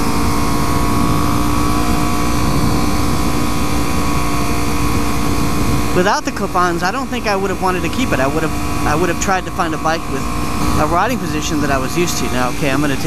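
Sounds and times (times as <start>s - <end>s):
motorcycle engine cruising: 0.0s - 13.0s
wind rushing over microphone: 0.0s - 13.0s.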